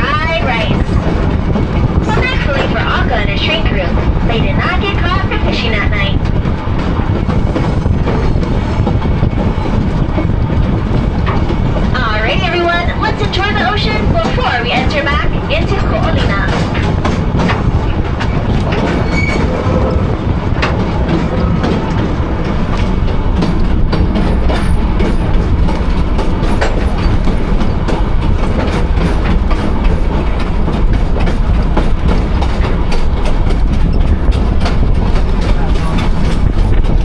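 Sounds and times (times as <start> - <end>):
train car clicking and knocking: 0.0 - 37.0
train wheels rumbling on rails: 0.0 - 37.0.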